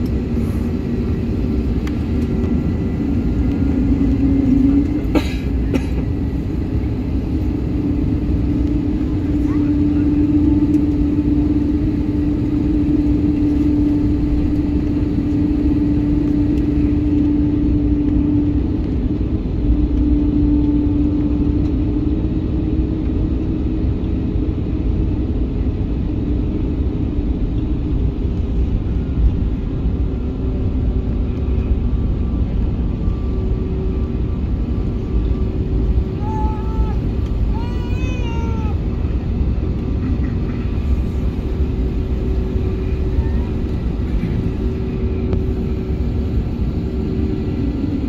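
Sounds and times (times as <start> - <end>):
airplane cabin rumble: 0.0 - 48.0
jet engine hum: 0.0 - 48.0.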